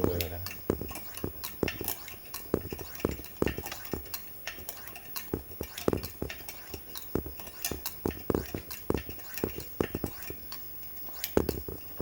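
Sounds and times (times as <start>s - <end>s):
lantern hand pump clicking: 0.0s - 12.0s.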